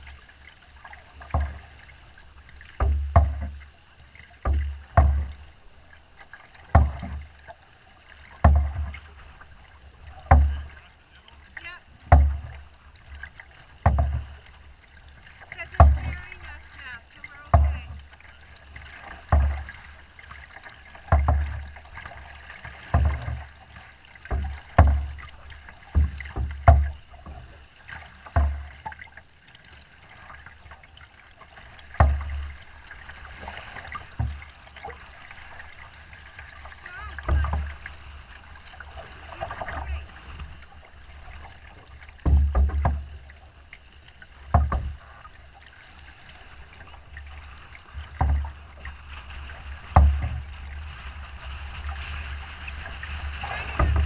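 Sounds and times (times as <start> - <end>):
water splashing: 0.0 - 54.0
waves thumping against boat hull: 0.0 - 54.0.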